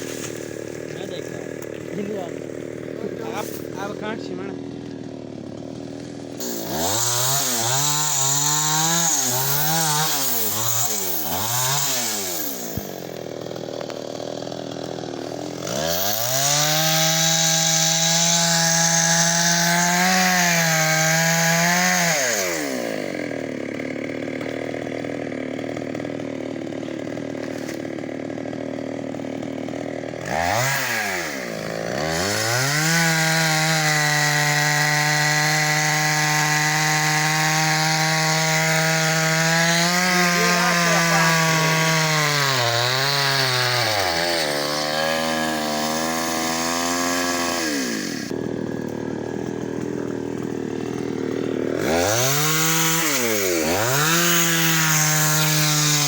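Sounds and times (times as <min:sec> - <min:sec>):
chainsaw cutting into tree: 0:00.0 - 0:56.0
chainsaw engine revving: 0:00.0 - 0:56.0.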